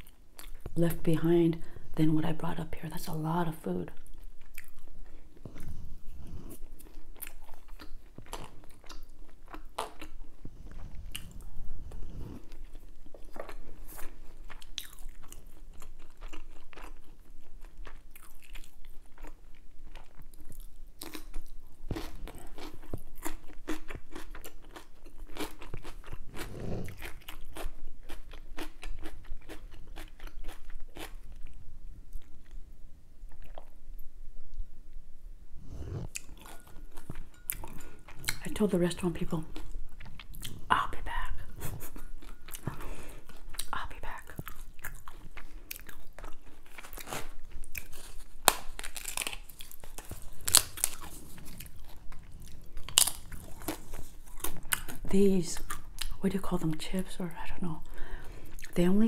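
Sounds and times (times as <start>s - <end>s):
person chewing crunchy food: 0.0s - 0.8s, 4.0s - 32.6s, 33.2s - 33.9s, 35.6s - 38.6s, 39.2s - 56.2s, 58.1s - 58.8s.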